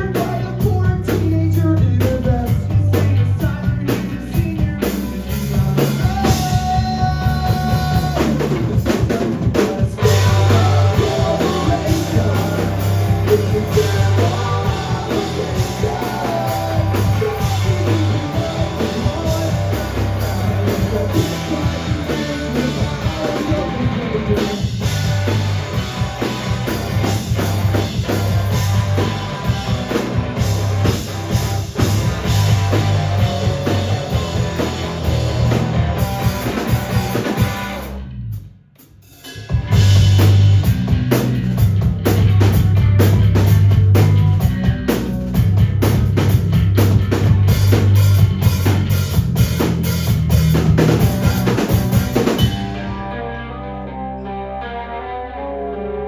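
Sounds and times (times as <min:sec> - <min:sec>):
live rock band playing: 0:00.0 - 0:38.4, 0:39.0 - 0:56.0
drum kit: 0:00.0 - 0:53.1.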